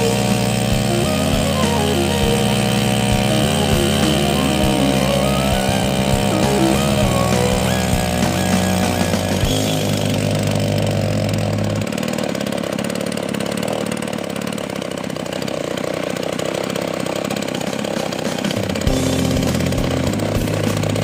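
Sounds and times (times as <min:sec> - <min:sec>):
two-stroke engine at high revs: 0:00.0 - 0:21.0.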